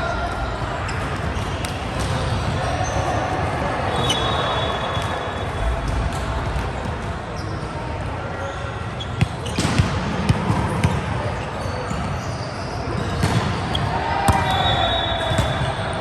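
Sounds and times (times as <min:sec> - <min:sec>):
sports hall background noise: 0:00.0 - 0:16.0.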